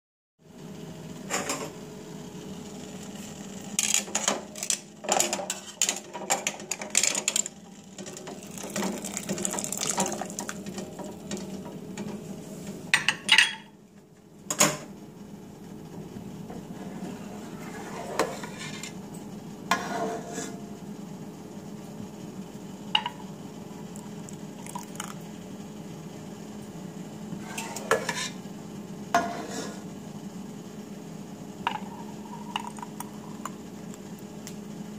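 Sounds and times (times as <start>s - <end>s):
steady low hum: 0.4s - 34.9s.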